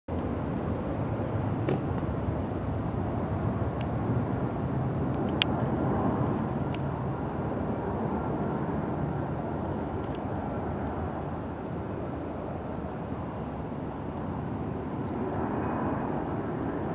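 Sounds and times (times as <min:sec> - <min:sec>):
distant jet engines roaring: 0:00.1 - 0:16.9.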